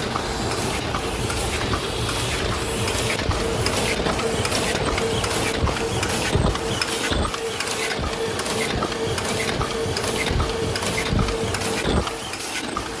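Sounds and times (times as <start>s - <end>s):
rhythmic mechanical clatter: 0.0s - 13.0s.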